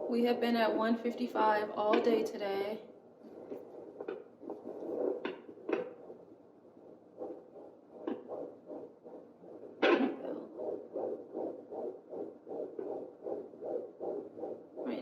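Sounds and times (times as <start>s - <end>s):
fetal heartbeat whooshing pulse: 0.0s - 15.0s.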